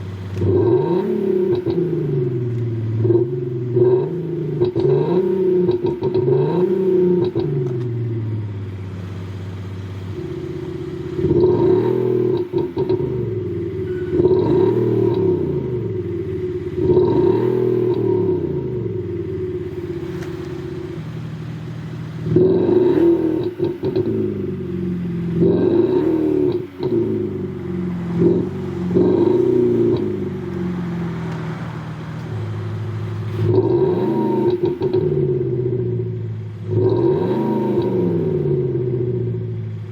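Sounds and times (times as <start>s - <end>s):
car engine revving: 0.0s - 39.9s
exhaust pops: 0.0s - 39.9s.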